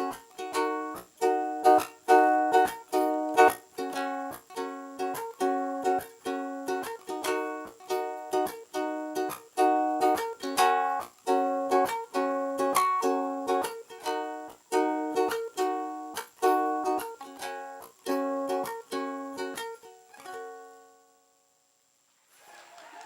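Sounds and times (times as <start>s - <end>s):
ukulele strumming chords: 0.0s - 21.2s.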